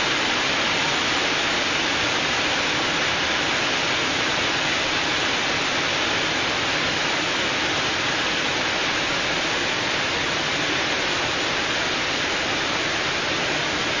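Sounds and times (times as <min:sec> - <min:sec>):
rush of falling water: 0:00.0 - 0:14.0.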